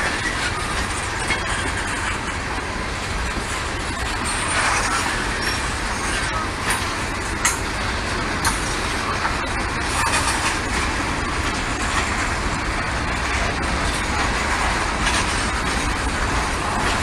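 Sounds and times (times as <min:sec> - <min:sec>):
freight train rumbling past: 0:00.0 - 0:17.0
sharp clicks of train wheels: 0:00.0 - 0:17.0.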